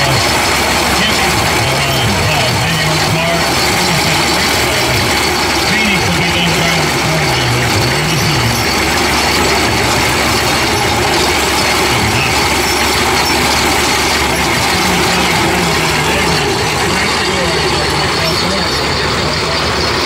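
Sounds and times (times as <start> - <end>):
mill grinding corn: 0.0 - 20.0.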